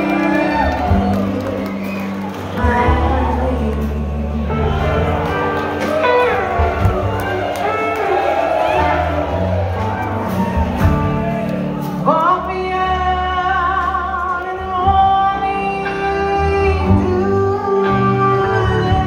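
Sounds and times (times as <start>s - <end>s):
rock band playing: 0.0s - 19.0s
sliding lead guitar line: 0.0s - 19.0s.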